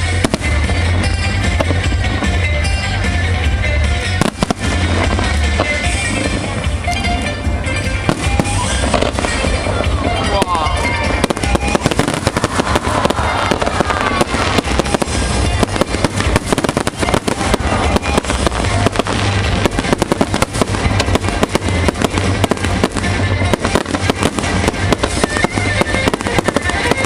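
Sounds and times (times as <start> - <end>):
fireworks bangs and crackles: 0.0 - 27.0
music playing: 0.0 - 27.0.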